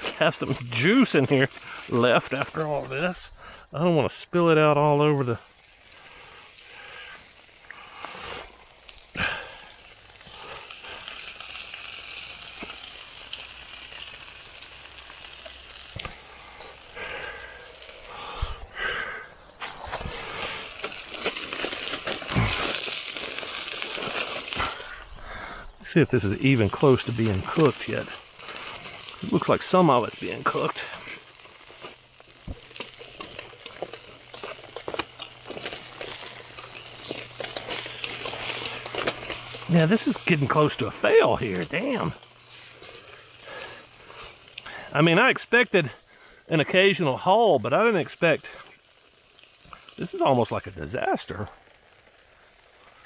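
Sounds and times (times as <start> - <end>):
campfire crackles: 0.0 - 53.0
food sizzling in foil: 0.0 - 53.0.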